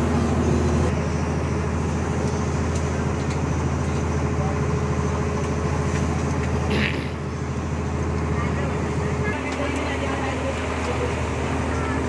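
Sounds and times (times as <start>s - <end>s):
boat engine droning: 0.0s - 12.0s
water rushing along hull: 0.0s - 12.0s.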